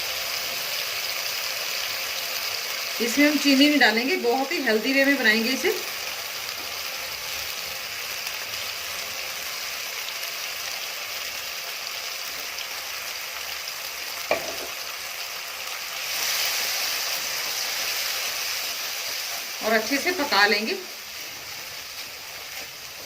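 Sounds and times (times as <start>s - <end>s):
paste sizzling in hot ghee: 0.0s - 23.0s.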